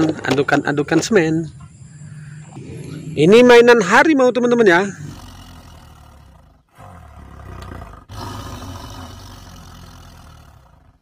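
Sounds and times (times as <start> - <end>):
tiger growling low: 0.0 - 11.0.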